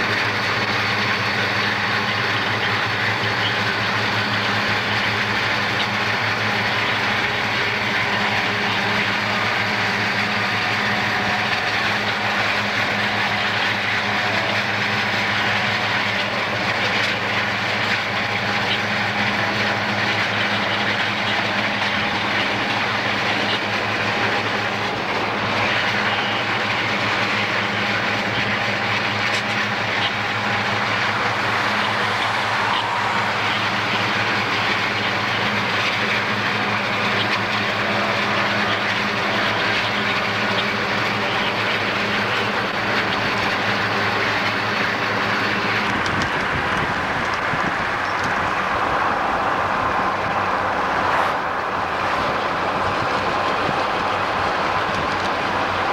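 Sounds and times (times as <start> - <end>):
car road and wind noise: 0.0 - 55.9
low steady drone: 0.0 - 55.9.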